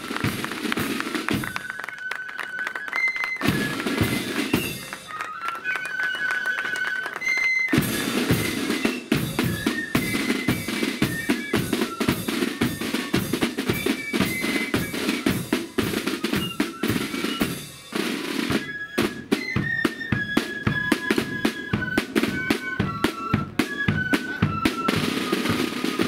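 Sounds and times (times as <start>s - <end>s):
snare drums playing march: 0.0s - 26.0s.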